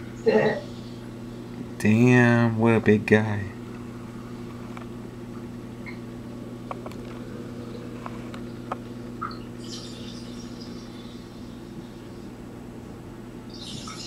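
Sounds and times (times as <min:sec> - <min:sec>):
aquarium filter pump humming: 0:00.0 - 0:14.0.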